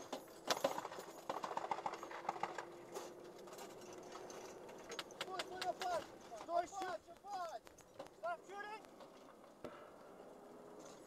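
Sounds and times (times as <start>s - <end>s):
gear clicking and rattling: 0.0s - 9.6s.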